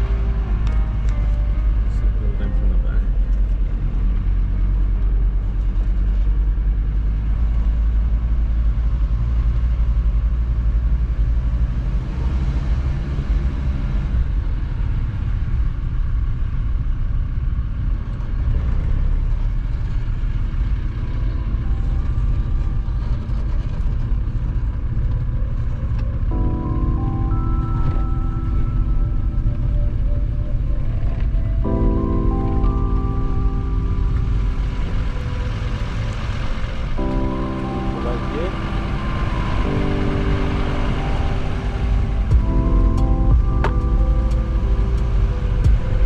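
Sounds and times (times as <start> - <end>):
vehicle cabin road rumble: 0.0 - 46.0.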